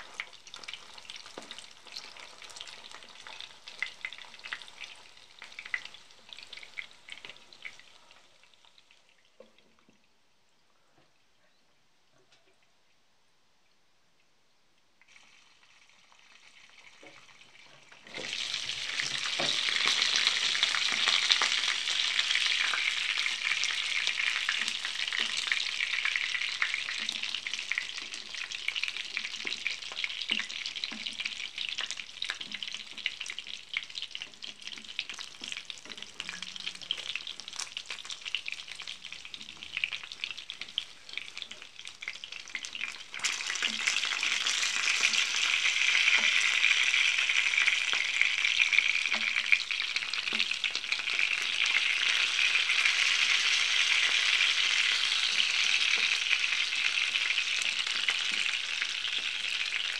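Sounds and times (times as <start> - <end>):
food sizzling in hot oil: 0.0 - 9.5, 15.0 - 59.9.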